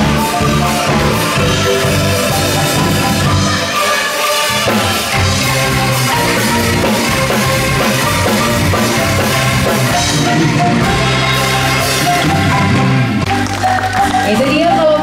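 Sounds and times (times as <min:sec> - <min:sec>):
drum beat: 0:00.0 - 0:14.2
pitched percussion melody: 0:00.0 - 0:15.0.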